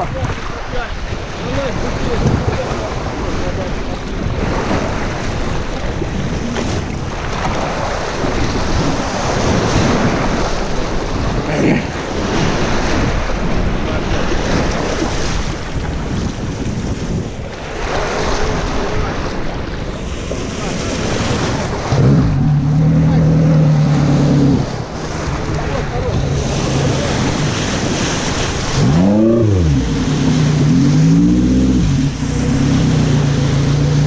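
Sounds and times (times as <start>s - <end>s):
river waves splashing over rocks: 0.0s - 34.0s
wind buffeting microphone: 0.0s - 34.0s.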